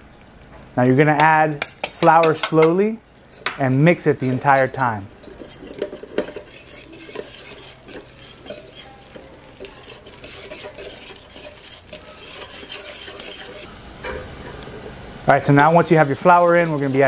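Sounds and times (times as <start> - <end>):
whisk scraping a metal pan: 1.6 - 14.7, 15.6 - 17.0
butter sizzling: 1.6 - 17.0.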